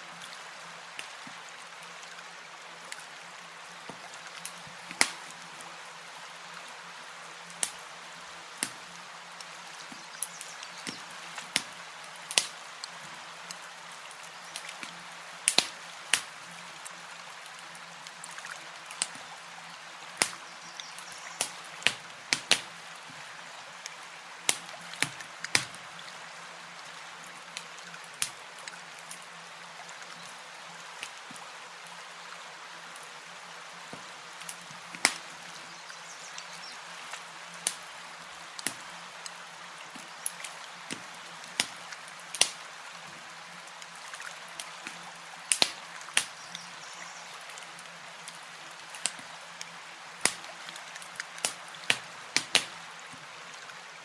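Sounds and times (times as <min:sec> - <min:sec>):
campfire crackling: 0:00.1 - 0:29.3, 0:32.8 - 0:53.8.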